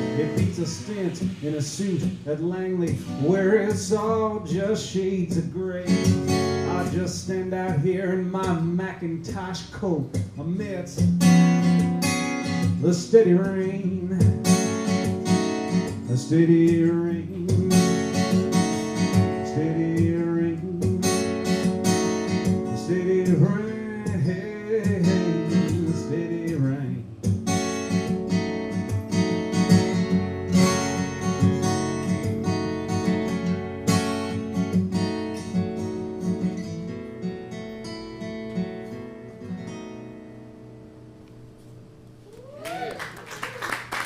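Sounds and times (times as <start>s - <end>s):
acoustic guitar strumming chords: 0.0s - 42.1s.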